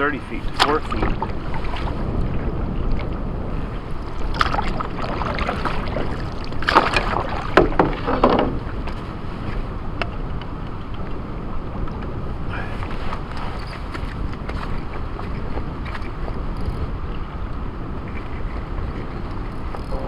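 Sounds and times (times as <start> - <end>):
water splashing: 0.0 - 11.1, 12.3 - 20.0
wind on microphone: 0.0 - 20.0.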